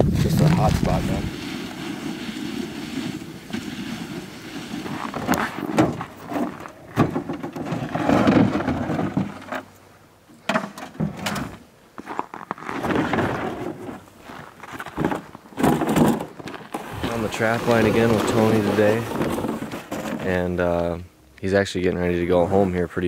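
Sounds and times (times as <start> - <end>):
plastic sled knocking and scraping: 0.0 - 9.7, 10.5 - 20.7.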